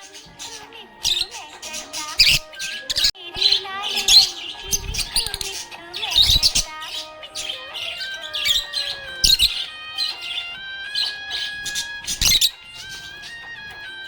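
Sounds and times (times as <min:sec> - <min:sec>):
background music with held notes: 0:00.0 - 0:14.0
budgerigar chirping: 0:00.0 - 0:14.0.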